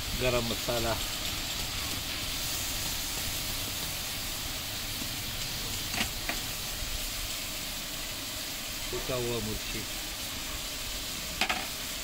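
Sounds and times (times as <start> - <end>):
hot oil sizzling in a pot: 0.0 - 12.0.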